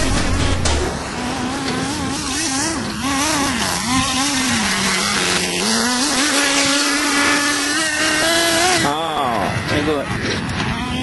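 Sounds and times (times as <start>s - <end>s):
small nitro engine revving: 1.2s - 11.0s.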